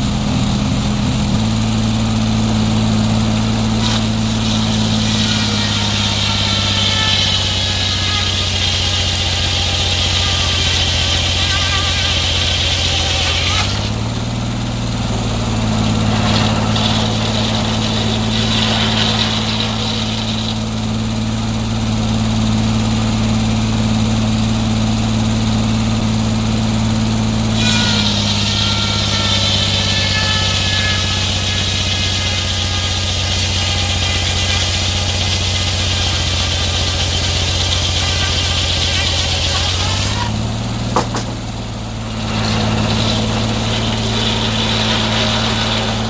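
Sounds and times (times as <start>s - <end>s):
high whine: 0.0s - 35.1s, 35.9s - 46.0s
sawmill engine running: 0.0s - 46.0s.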